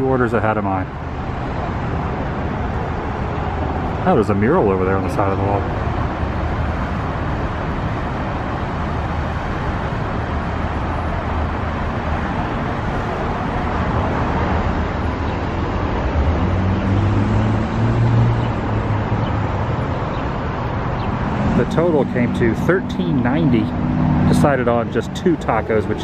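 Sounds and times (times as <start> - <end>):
street traffic noise: 0.0 - 26.0
vehicle engine hum: 0.0 - 26.0.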